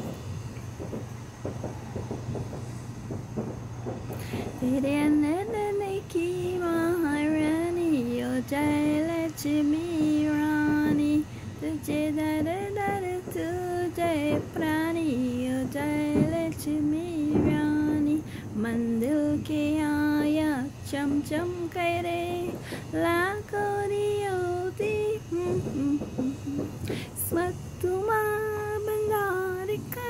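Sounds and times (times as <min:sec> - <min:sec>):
woman singing slow melody: 0:04.1 - 0:30.0.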